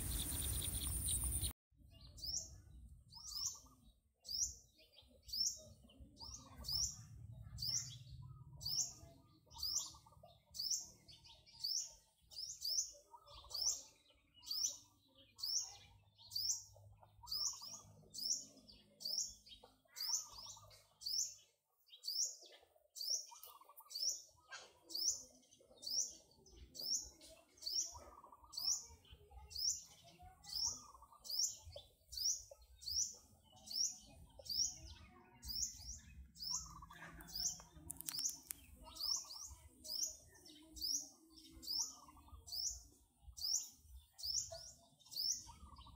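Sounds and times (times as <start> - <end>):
bird high chirp: 0.0 - 45.9
fainter lower bird calls: 0.0 - 45.9.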